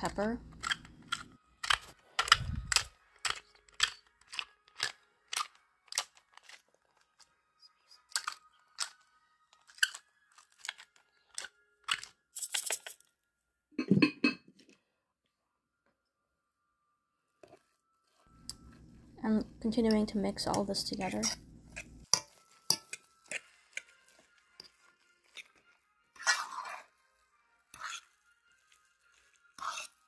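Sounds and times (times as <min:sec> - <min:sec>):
pepper grinder crunching peppercorns: 0:00.0 - 0:13.1, 0:18.2 - 0:30.0.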